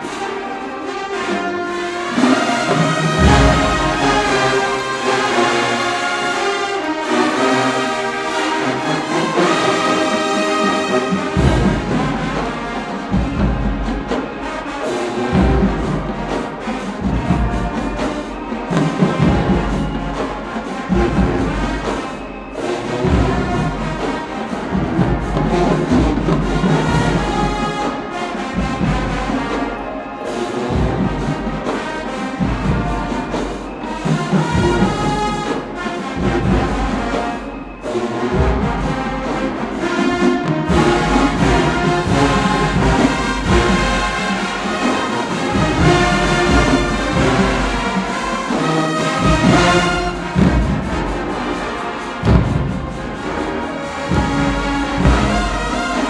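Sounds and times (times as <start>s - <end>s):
marching band playing: 0.0s - 56.0s.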